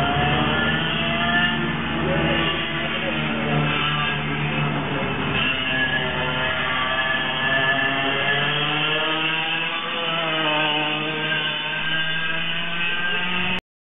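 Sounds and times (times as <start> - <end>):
kart engine at high revs: 0.0 - 13.6.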